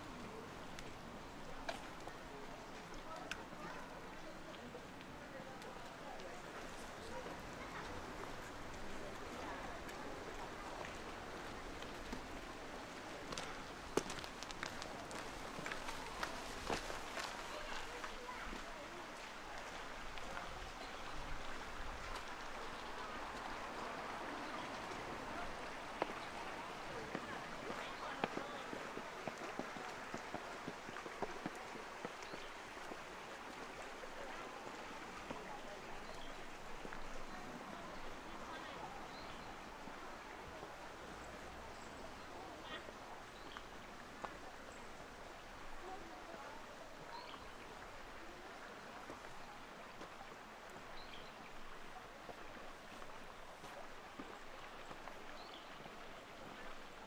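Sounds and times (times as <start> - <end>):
faint distant voices: 0.0 - 57.0
outdoor noise wash: 0.0 - 57.0.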